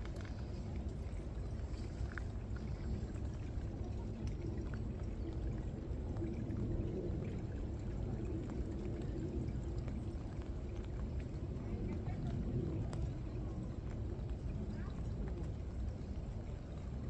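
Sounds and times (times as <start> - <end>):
light raindrop taps: 0.0 - 17.0.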